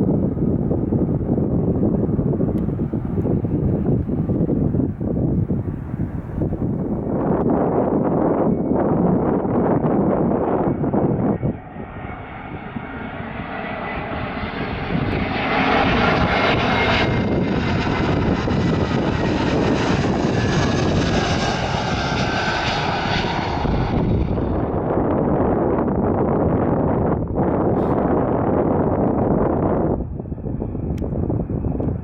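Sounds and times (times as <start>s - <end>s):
airliner engines passing overhead: 0.0s - 32.0s
wind buffeting microphone: 0.0s - 32.0s.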